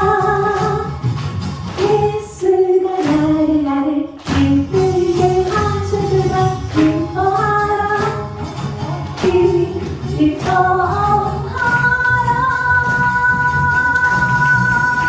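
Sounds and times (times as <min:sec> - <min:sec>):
woman singing gospel song: 0:00.0 - 0:01.0, 0:01.7 - 0:15.0
instrumental accompaniment: 0:00.0 - 0:15.0.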